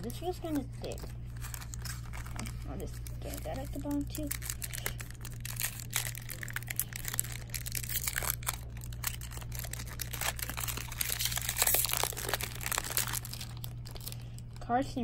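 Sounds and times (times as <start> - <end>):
foil wrapper crinkling: 0.1 - 15.0.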